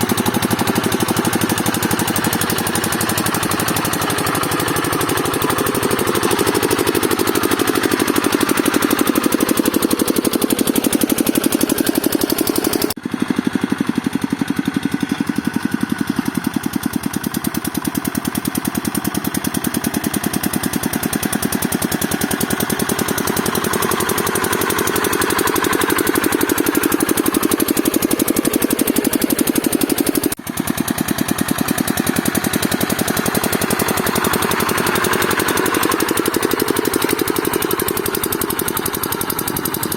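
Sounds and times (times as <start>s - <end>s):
diesel engine knocking steadily: 0.0s - 39.9s.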